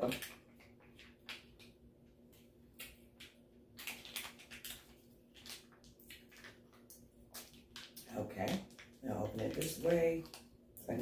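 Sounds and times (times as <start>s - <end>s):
packet crinkling: 0.0s - 1.8s, 2.4s - 11.0s
low steady hum: 0.0s - 11.0s.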